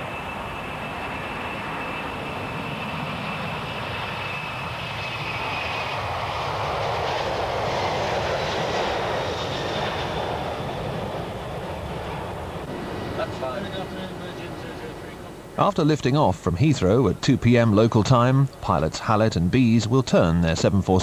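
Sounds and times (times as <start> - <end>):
jet engines whining and rushing: 0.0 - 21.0.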